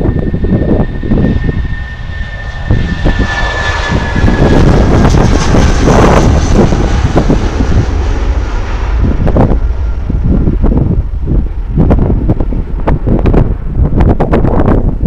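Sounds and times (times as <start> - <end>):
jet engines whining: 0.0 - 15.0
wind buffeting microphone: 0.0 - 15.0.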